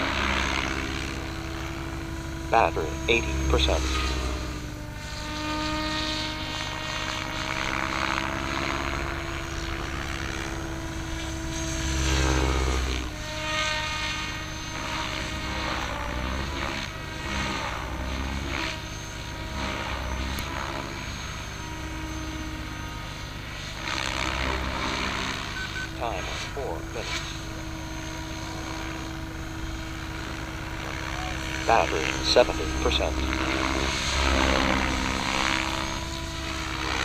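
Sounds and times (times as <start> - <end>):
helicopter rotor blades: 0.0 - 37.0
rc helicopter motor whine: 0.0 - 37.0.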